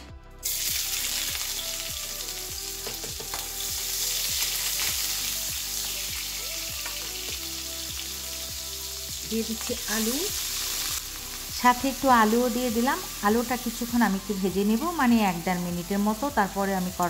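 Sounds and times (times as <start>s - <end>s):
onion sizzling in hot oil: 0.4s - 17.0s.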